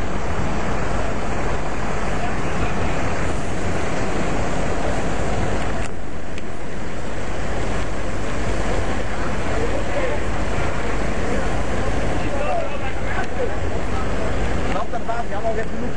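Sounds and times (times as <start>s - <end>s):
fire engine pumps running: 0.0s - 15.9s
hoses spraying water: 0.0s - 15.9s.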